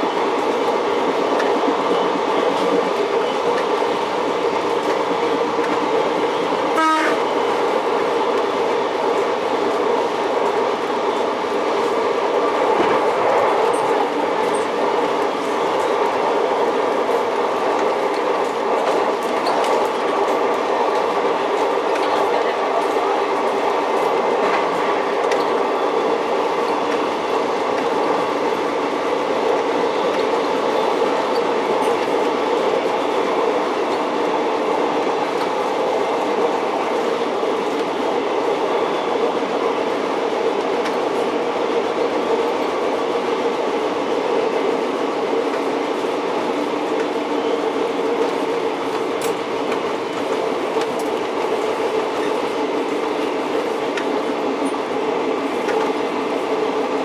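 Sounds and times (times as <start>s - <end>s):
rail motor engine drone: 0.0s - 57.0s.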